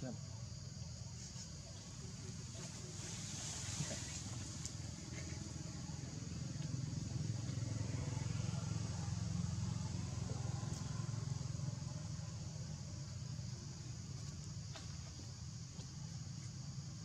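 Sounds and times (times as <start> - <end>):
vehicle engine humming: 1.9 - 16.4.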